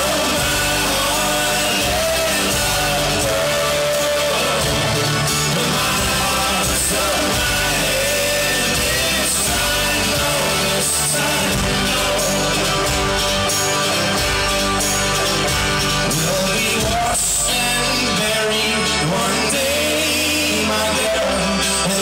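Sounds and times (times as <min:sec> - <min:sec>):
folk-rock band playing: 0:00.0 - 0:22.0.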